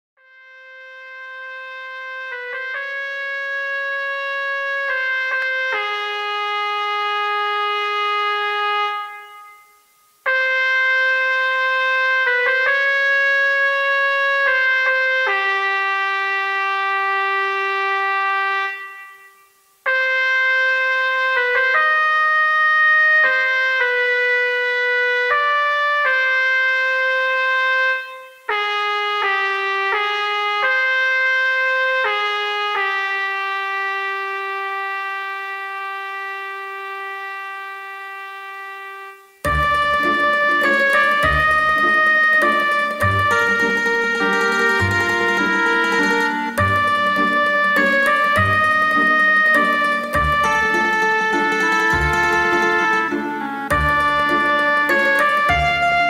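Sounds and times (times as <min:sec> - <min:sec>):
trumpet playing slow melody: 0:00.2 - 0:56.0.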